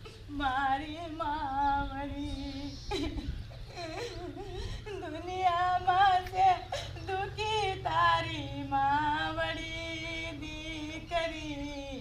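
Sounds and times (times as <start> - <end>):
steady low hum: 0.0 - 12.0
woman singing a prayer: 0.0 - 12.0.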